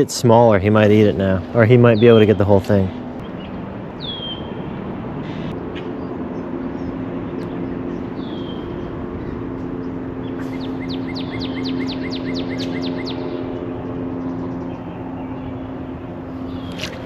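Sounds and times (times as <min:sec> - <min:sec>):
low mechanical hum: 0:00.0 - 0:17.0
songbirds calling: 0:00.0 - 0:17.0.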